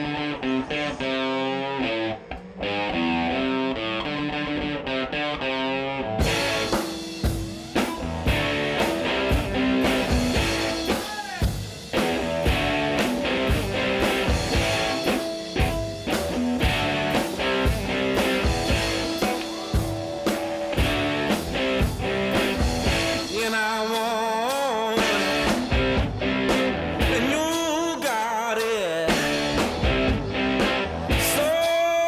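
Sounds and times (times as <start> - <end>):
guitar playing: 0.0 - 32.0
drum kit steady beat: 6.2 - 32.0.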